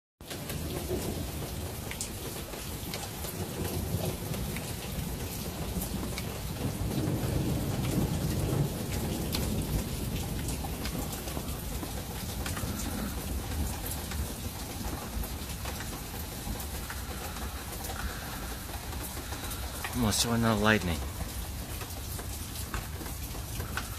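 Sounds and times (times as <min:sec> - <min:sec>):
steady rain: 0:00.2 - 0:23.9
low rumble of thunder: 0:00.4 - 0:20.0
drips ticking on surfaces: 0:00.4 - 0:23.9.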